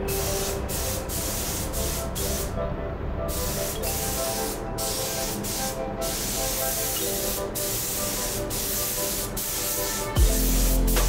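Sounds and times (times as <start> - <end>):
hissing spray: 0.0 - 2.5, 3.3 - 11.0
soft background music: 0.0 - 11.0.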